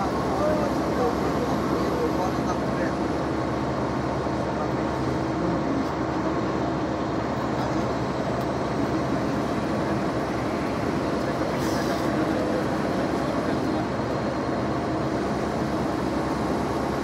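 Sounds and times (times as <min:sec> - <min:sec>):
coach engine and road noise: 0:00.0 - 0:17.0.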